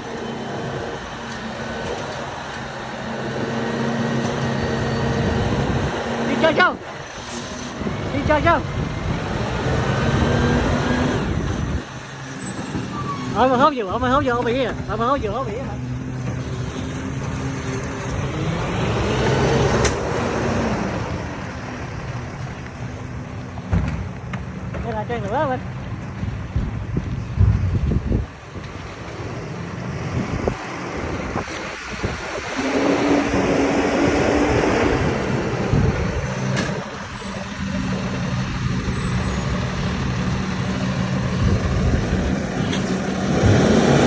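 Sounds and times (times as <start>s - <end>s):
garbage truck engine humming: 0.0s - 44.0s.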